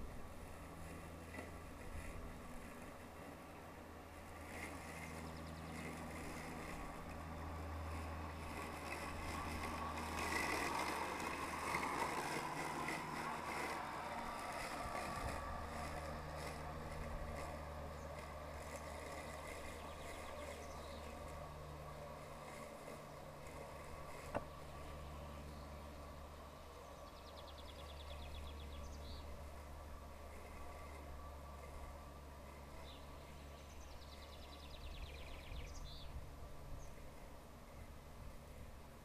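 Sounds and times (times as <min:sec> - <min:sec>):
robotic lawn mower humming: 0:00.0 - 0:39.0.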